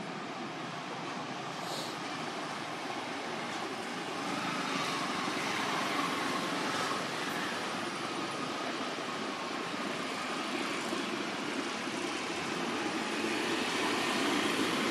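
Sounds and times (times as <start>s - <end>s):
outdoor background drone: 0.0s - 14.9s.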